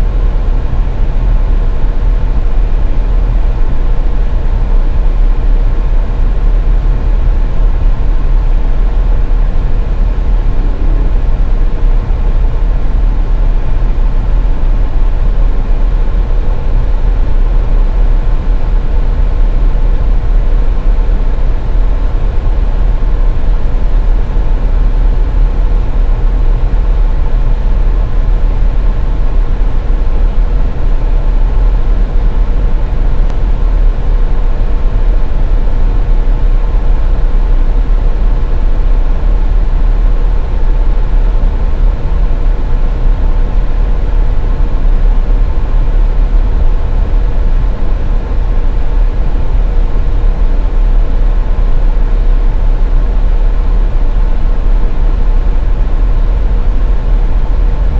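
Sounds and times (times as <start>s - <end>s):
faint constant hum: 0.0s - 57.9s.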